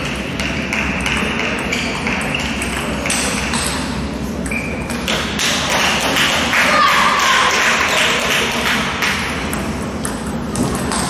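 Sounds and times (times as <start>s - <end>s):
table tennis balls clicking: 0.0s - 6.5s, 7.5s - 11.0s.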